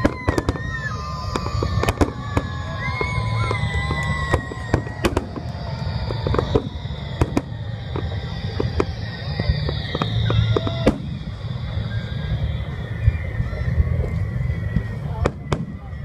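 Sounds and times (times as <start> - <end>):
falling whistling tones: 0.0 - 16.0
fireworks bangs and crackles: 0.0 - 16.0
low rumble: 0.0 - 16.0.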